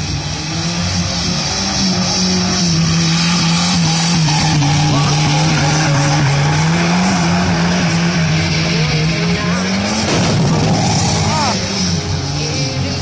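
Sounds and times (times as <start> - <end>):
car engine at high revs: 0.0 - 13.0
tyres screeching on asphalt: 0.0 - 13.0.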